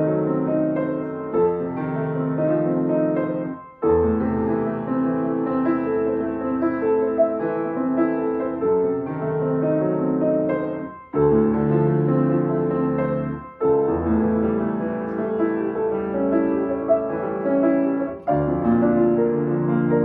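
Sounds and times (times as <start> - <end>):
slow classical piano piece: 0.0 - 20.0.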